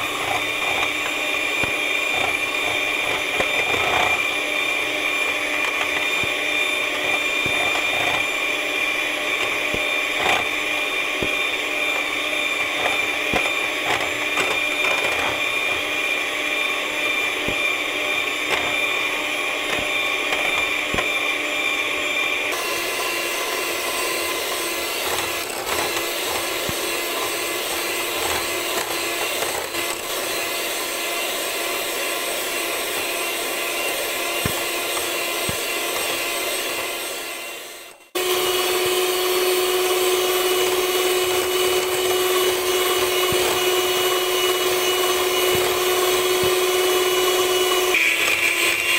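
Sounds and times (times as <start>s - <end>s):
electric hand mixer whipping cream: 0.0s - 48.9s.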